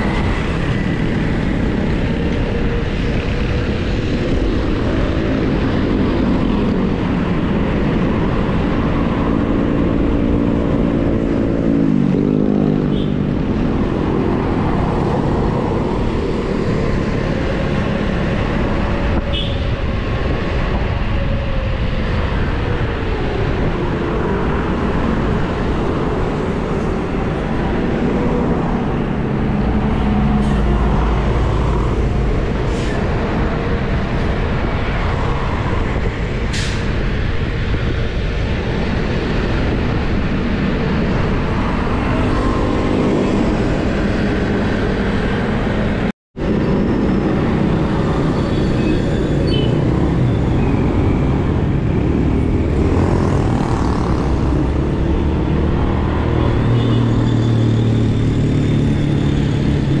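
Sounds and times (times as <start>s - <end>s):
passing vehicle engines humming: 0.0s - 60.0s
road and wind noise: 0.0s - 60.0s.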